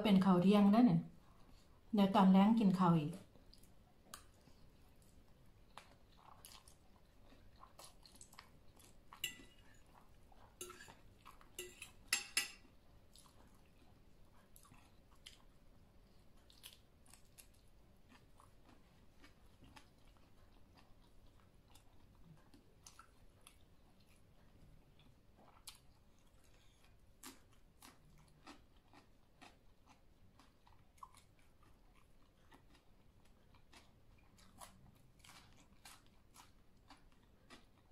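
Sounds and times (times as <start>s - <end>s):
person chewing: 3.3s - 37.9s.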